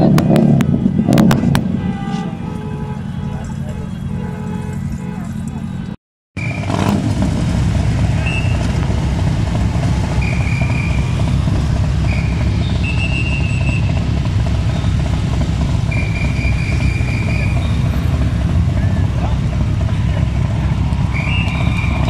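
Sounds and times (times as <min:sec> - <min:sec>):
motorcycles idling: 0:00.0 - 0:22.0.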